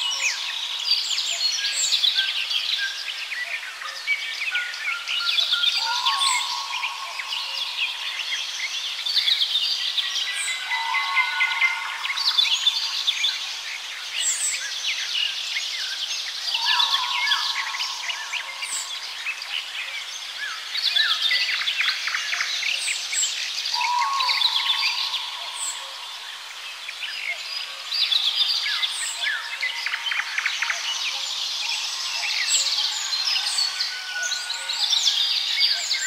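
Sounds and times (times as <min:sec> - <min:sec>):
songbirds singing: 0:00.0 - 0:36.0.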